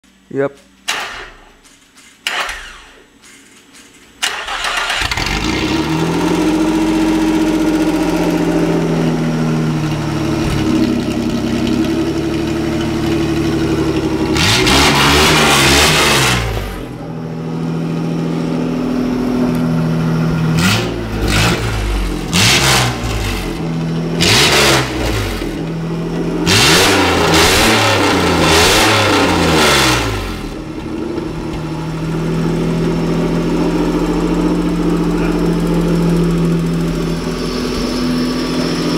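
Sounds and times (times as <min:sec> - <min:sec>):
car engine starting: 0:00.8 - 0:38.9
loud open-exhaust engine idling and revving: 0:04.3 - 0:38.9.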